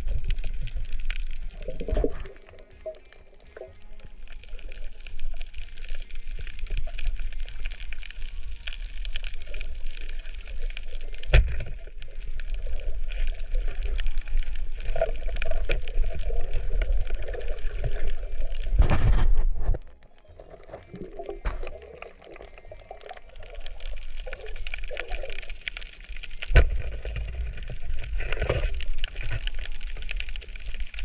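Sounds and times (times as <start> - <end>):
fine underwater crackling: 0.0 - 31.0
underwater water rumble: 0.0 - 31.0.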